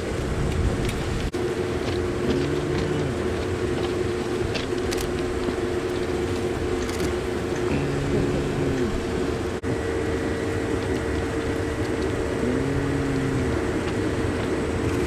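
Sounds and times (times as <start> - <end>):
steady electrical hum: 1.1 - 15.0.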